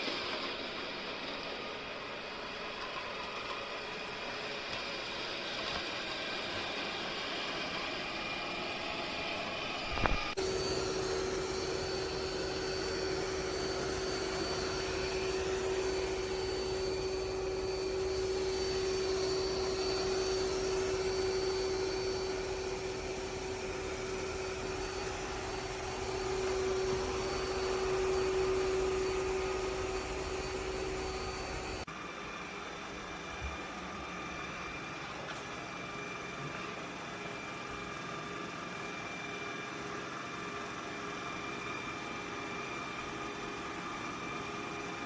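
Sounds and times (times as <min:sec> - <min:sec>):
robot vacuum motor whine: 0:00.0 - 0:45.0.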